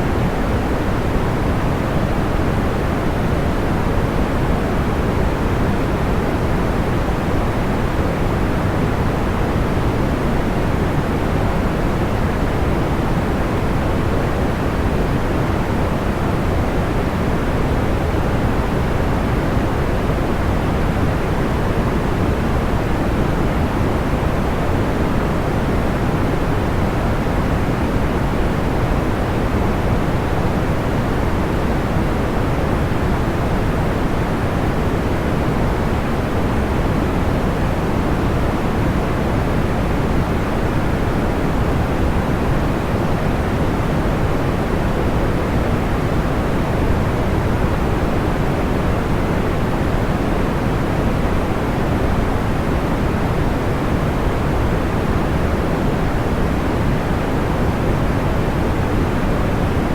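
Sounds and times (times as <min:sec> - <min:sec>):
low white noise hiss: 0:00.0 - 0:59.9.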